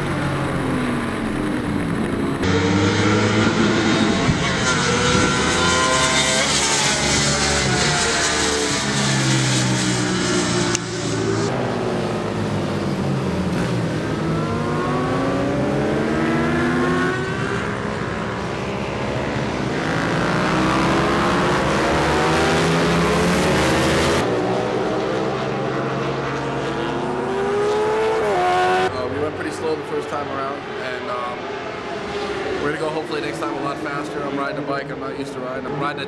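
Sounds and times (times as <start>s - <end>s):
racing motorcycle engines: 0.0s - 36.0s.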